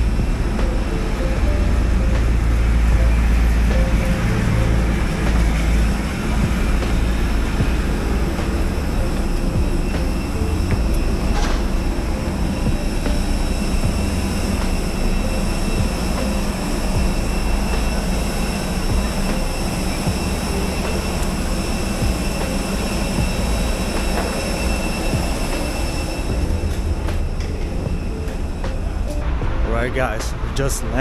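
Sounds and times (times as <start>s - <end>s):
high whining tones: 0.0s - 31.0s
jet engines roaring: 0.0s - 31.0s.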